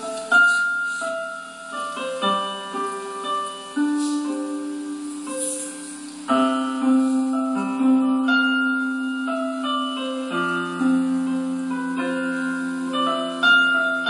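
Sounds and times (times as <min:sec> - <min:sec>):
slow keyboard music: 0:00.0 - 0:14.0.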